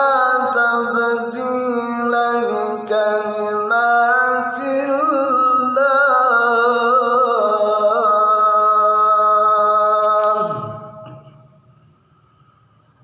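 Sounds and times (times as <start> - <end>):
man reciting melodically: 0.0 - 11.2.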